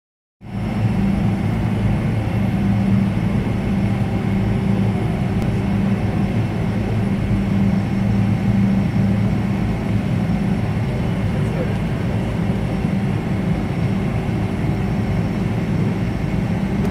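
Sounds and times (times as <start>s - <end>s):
jet engines droning: 0.4s - 16.9s.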